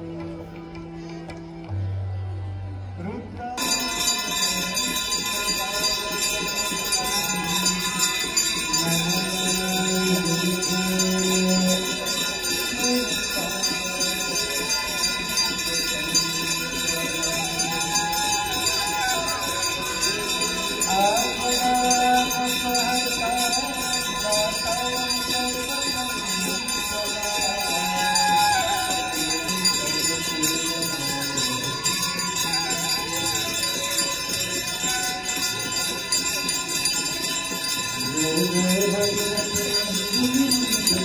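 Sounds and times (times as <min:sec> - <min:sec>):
person singing devotional song: 0:03.0 - 0:41.0
hand bells ringing: 0:03.6 - 0:41.0.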